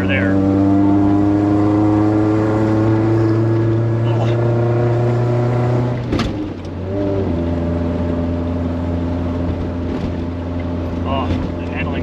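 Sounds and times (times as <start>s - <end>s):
car engine pulling: 0.0s - 12.0s.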